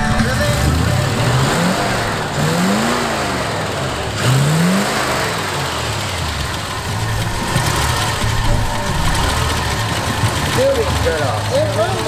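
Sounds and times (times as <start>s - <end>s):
truck engine revving and idling: 0.0s - 12.0s.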